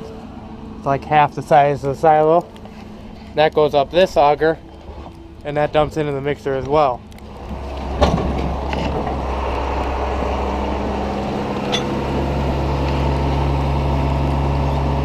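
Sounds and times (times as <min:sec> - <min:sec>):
farm machinery engine hum: 0:00.0 - 0:15.0.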